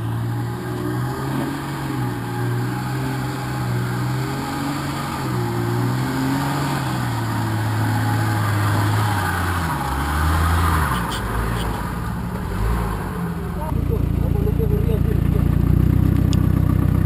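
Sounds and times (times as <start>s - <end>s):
car engine pulling at low speed: 0.0s - 17.0s.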